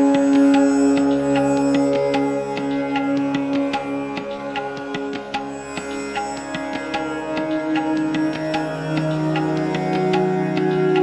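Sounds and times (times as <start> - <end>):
held drone: 0.0 - 11.0
light percussion: 0.0 - 11.0.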